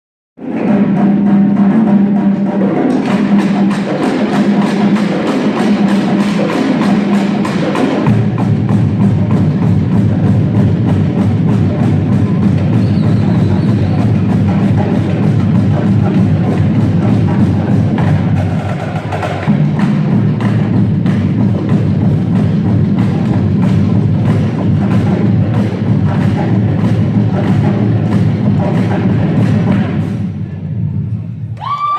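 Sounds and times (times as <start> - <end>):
rapid snare drum strokes: 0.4 - 30.4.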